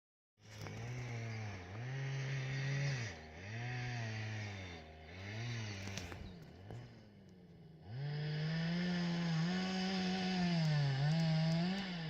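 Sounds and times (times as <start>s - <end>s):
small engine revving: 0.4s - 12.0s.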